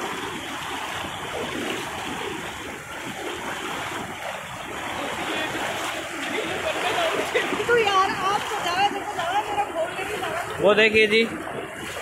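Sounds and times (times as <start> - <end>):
feet wading and splashing: 0.0 - 12.0
floodwater rushing: 0.0 - 12.0.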